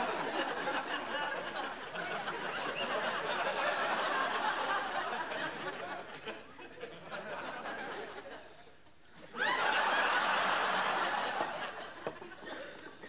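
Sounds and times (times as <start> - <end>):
audience laughter: 0.0 - 8.6, 9.2 - 13.0.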